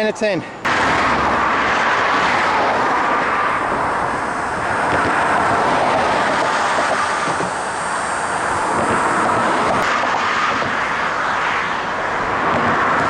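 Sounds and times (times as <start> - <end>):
highway traffic rushing past: 0.0 - 13.0
wind on microphone: 1.5 - 13.0.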